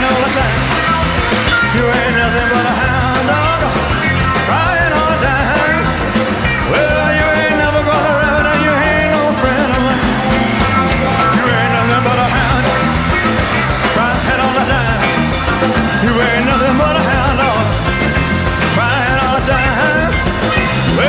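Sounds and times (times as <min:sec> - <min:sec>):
person singing: 0:00.0 - 0:21.0
rock and roll band playing: 0:00.0 - 0:21.0.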